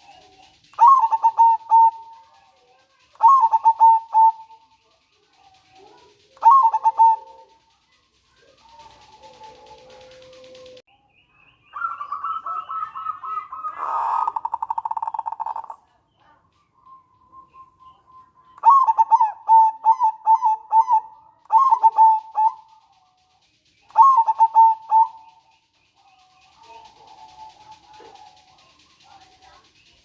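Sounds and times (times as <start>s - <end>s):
dove cooing and trilling: 0.0s - 10.8s, 11.7s - 30.0s.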